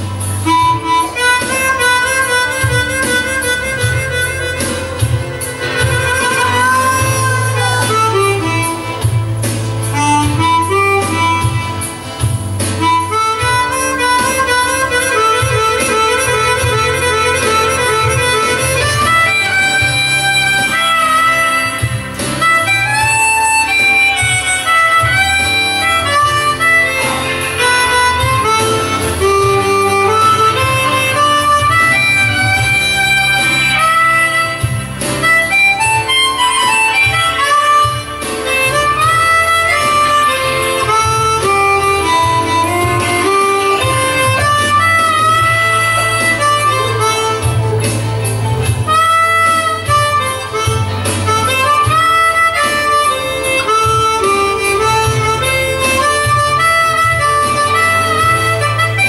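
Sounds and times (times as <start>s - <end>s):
harmonica playing a melody: 0.0s - 59.0s.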